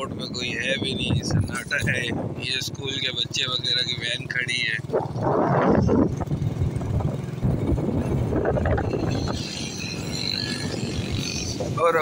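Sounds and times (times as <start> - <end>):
wind on microphone: 0.0 - 2.8, 4.8 - 12.0
motorcycle engine running: 0.0 - 12.0.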